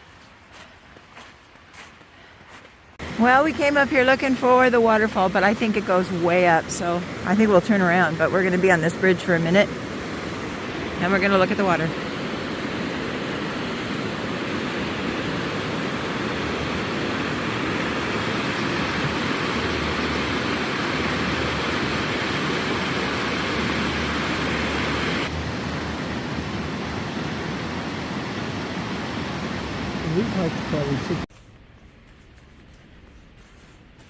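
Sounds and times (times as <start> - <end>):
river whitewater roaring: 3.0 - 31.2.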